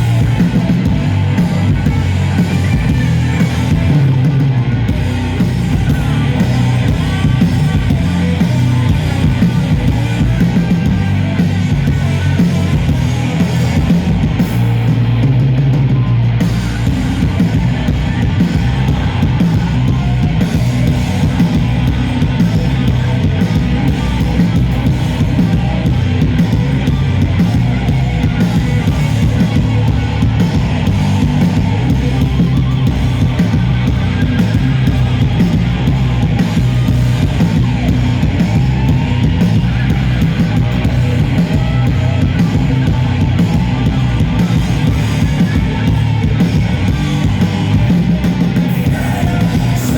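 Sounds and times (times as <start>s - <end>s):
metal band playing live: 0.0s - 49.9s.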